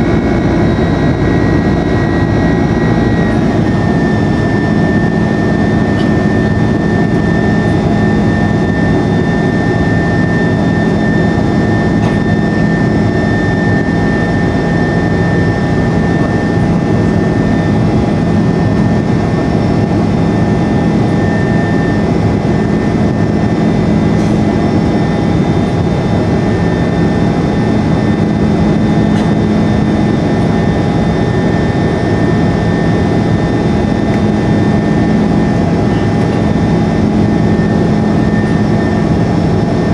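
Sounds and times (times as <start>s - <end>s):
jet engines droning in cabin: 0.0s - 39.9s
thin high whine: 0.0s - 39.9s.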